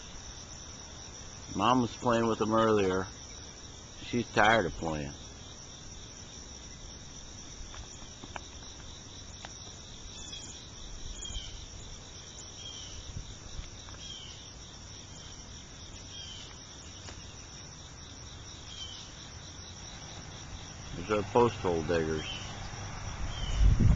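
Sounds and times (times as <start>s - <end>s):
insects chirring trill: 0.0s - 23.9s.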